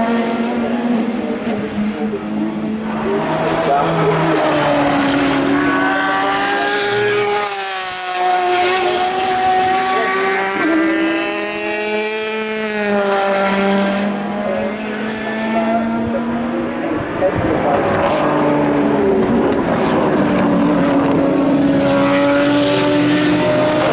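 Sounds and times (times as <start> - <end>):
race car engines passing: 0.0 - 23.9.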